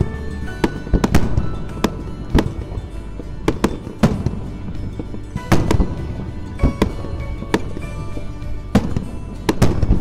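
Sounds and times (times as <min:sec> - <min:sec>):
background music: 0:00.0 - 0:10.0
fireworks bangs: 0:00.0 - 0:10.0.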